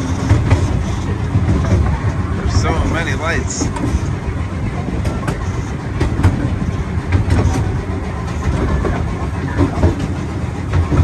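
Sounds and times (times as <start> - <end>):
ride vehicle rumbling: 0.0 - 11.0.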